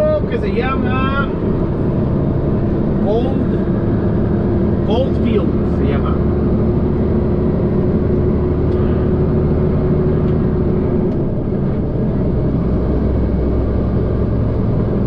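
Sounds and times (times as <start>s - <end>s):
steady hum: 0.0s - 15.0s
truck engine running: 0.0s - 15.0s.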